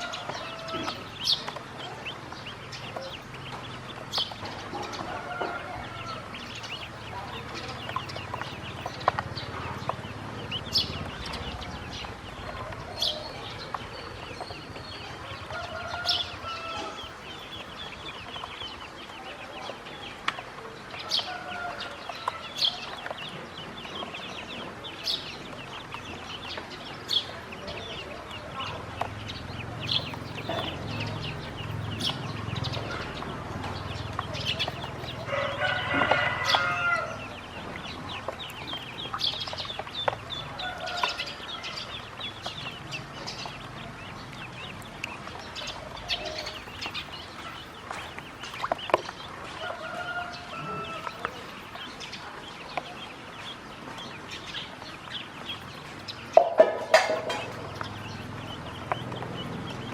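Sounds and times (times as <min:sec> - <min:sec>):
ducklings peeping: 0:00.0 - 0:59.9.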